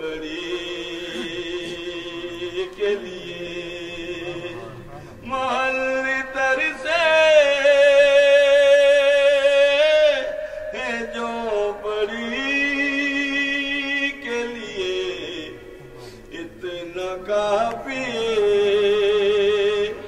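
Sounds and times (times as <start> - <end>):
man chanting: 0.0 - 20.0.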